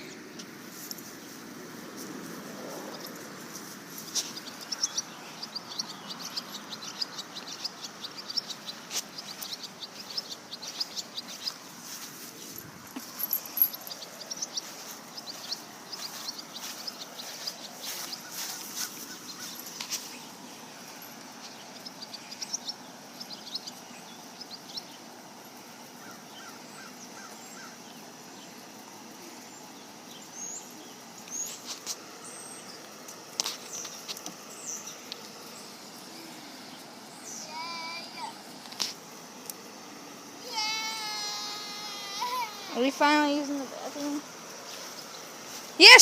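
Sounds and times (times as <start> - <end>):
outdoor background noise: 0.0 - 46.0
small birds chirping: 0.0 - 46.0.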